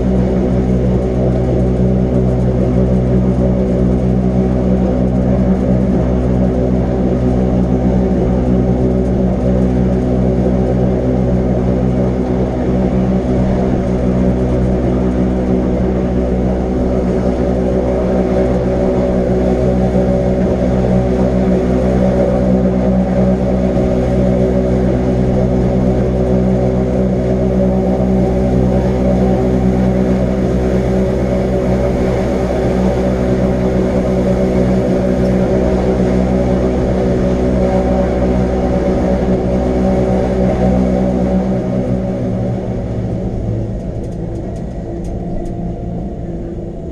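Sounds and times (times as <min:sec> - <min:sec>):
electric train drive humming: 0:00.0 - 0:46.9.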